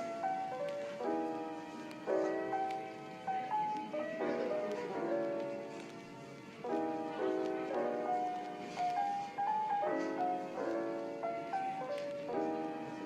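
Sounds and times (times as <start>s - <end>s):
soft piano instrumental music: 0.0s - 13.0s.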